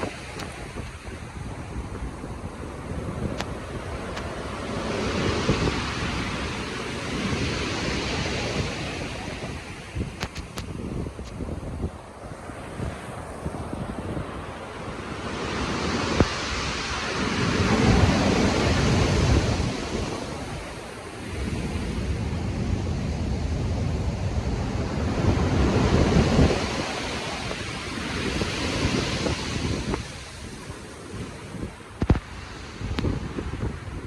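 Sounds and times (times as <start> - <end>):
waves breaking: 0.0 - 34.0
wind over water: 0.0 - 34.0.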